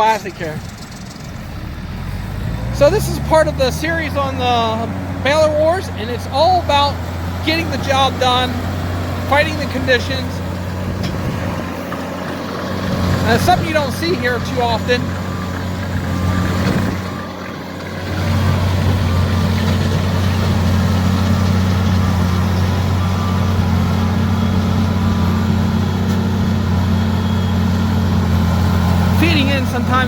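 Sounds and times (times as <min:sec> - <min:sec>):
baler working: 0:00.0 - 0:30.0
tractor engine under load: 0:00.0 - 0:30.0.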